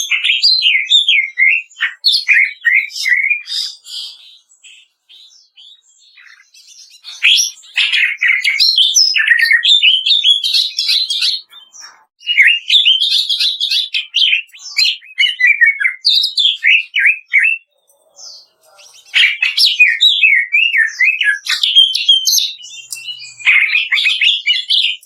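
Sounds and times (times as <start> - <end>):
bird chattering and whistling: 0.0 - 25.0.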